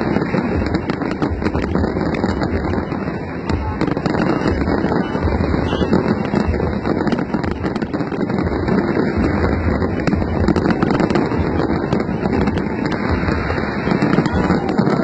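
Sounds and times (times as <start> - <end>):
fireworks popping and crackling: 0.0 - 15.0.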